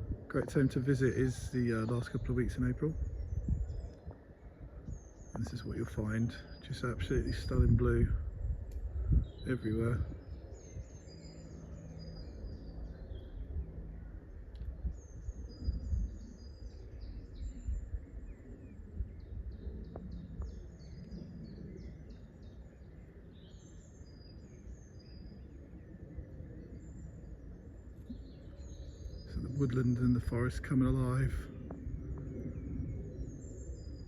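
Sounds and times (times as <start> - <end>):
low rumble: 0.0 - 34.0
songbirds chirping and trilling: 0.0 - 34.0.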